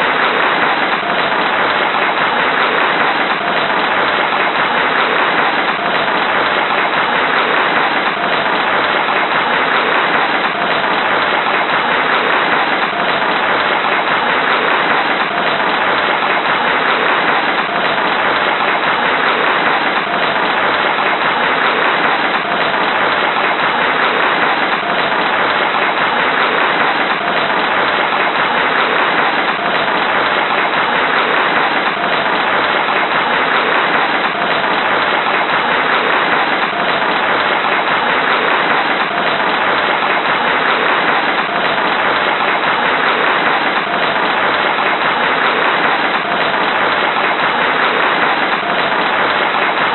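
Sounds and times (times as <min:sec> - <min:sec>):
large crowd applauding: 0:00.0 - 0:49.9.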